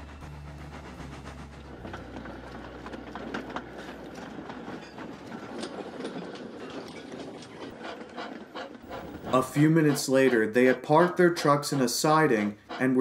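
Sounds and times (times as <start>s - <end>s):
train wheels clattering over rails: 0.0s - 13.0s.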